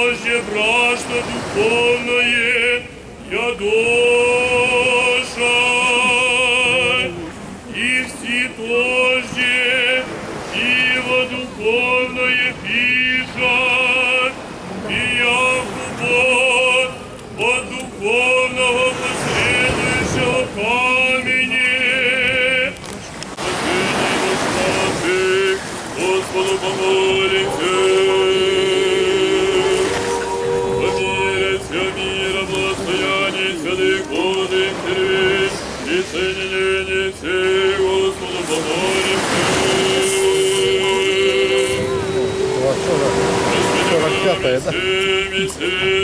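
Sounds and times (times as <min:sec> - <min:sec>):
voices singing liturgical chant: 0:00.0 - 0:46.0.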